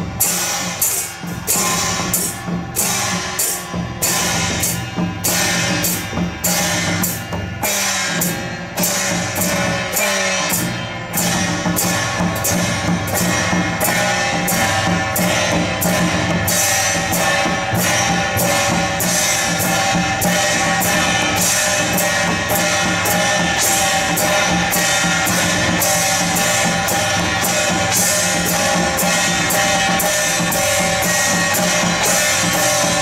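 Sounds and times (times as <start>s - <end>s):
drum beat: 0.0s - 33.0s
hand gongs struck with sticks: 0.0s - 33.0s.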